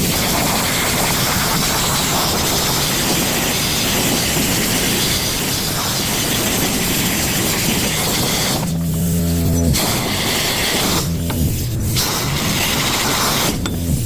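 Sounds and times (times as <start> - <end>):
sandblaster hissing: 0.0 - 14.0.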